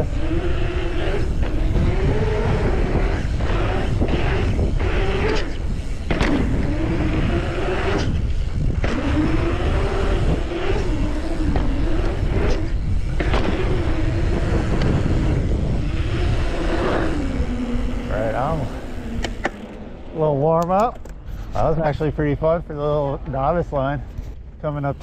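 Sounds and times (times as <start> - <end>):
bike tyres humming on asphalt: 0.0 - 25.0
wind rushing over microphone: 0.0 - 25.0.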